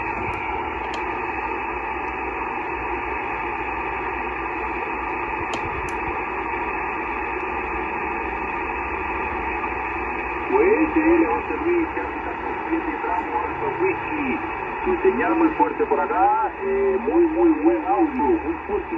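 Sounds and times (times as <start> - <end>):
radio hiss and static: 0.0 - 18.9.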